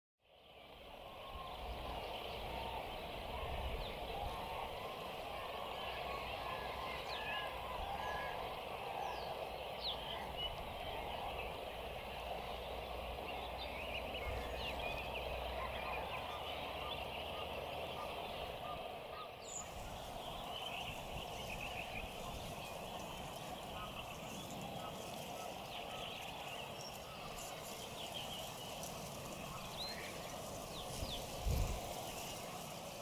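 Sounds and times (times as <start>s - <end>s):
chorus of animal calls: 1.0s - 33.0s.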